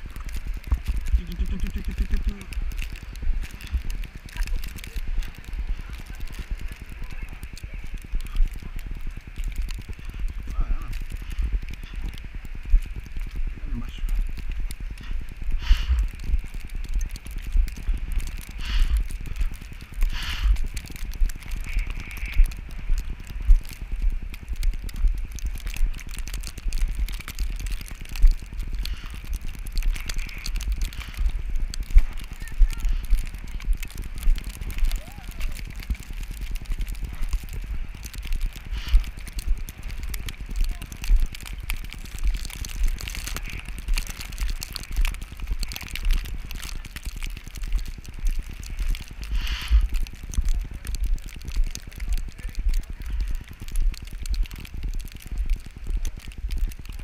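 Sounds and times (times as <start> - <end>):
small crackles and clicks: 0.0 - 57.0
wind buffeting microphone: 0.0 - 57.0.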